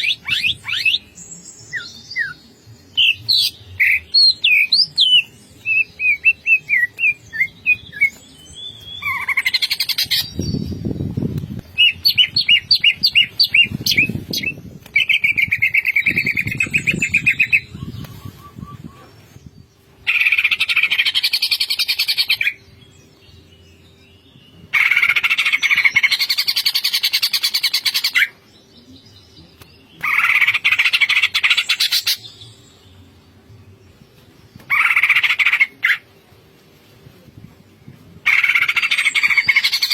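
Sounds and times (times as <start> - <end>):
bird singing: 0.0 - 36.1.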